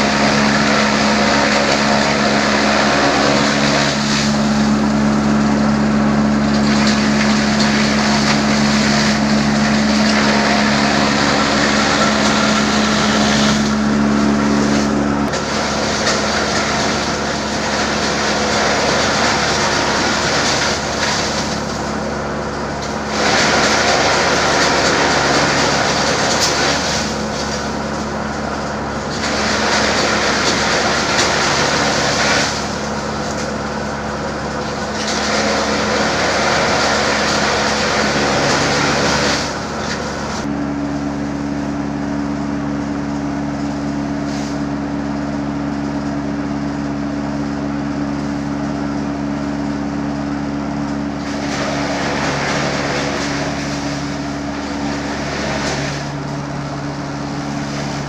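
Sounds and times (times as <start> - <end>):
forage chopper motor humming: 0.0 - 58.0.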